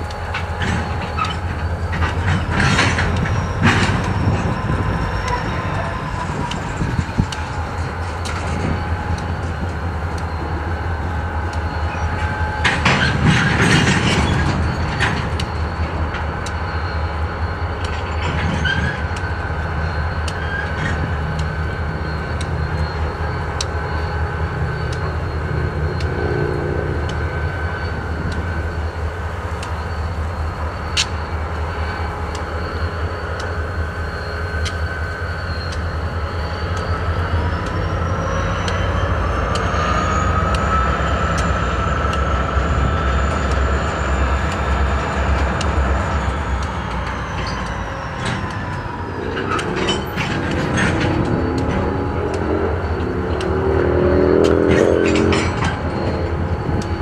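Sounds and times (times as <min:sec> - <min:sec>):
freight cars rumbling: 0:00.0 - 0:57.0
squealing wheels: 0:00.0 - 0:57.0.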